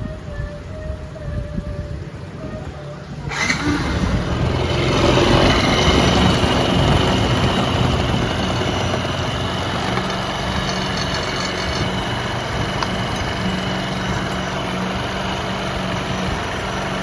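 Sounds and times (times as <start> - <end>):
scooter engine idling: 3.0 - 17.0.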